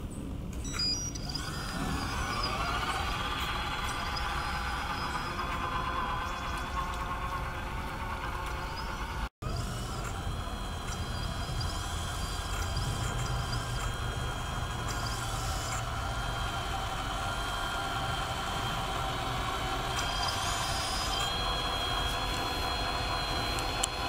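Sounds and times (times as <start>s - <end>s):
electric drive and gears whining: 0.6s - 24.0s.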